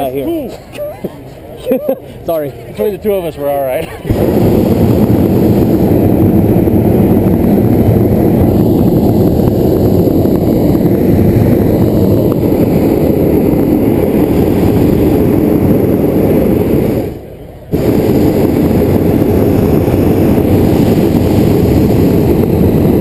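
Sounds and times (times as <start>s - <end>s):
propane burner blast: 3.6s - 23.0s.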